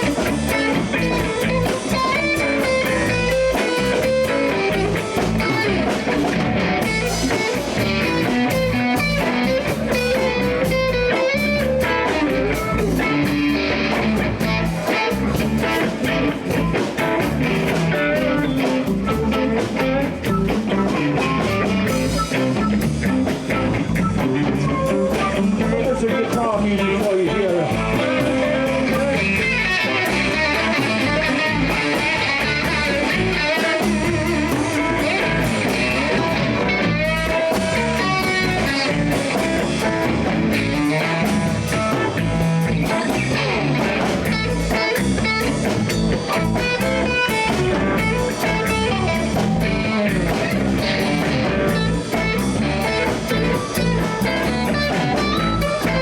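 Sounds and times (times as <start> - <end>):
blues band playing: 0.0 - 56.0
guitar: 0.0 - 56.0.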